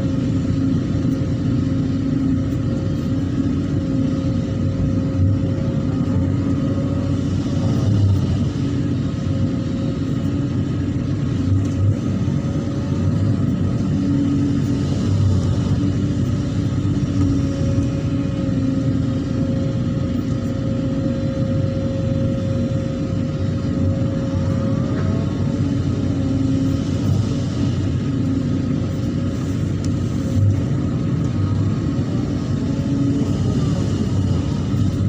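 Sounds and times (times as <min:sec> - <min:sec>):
excavator diesel engine running: 0:00.0 - 0:35.0
steady whine: 0:00.0 - 0:35.0.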